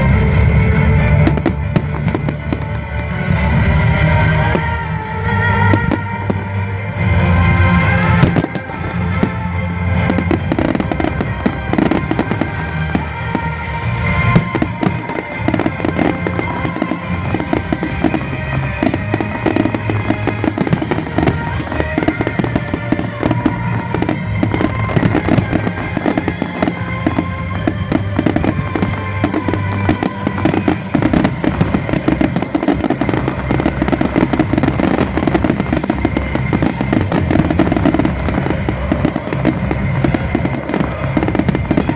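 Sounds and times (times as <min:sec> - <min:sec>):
fireworks bursting and crackling: 0:00.0 - 0:41.9
music: 0:00.0 - 0:41.9.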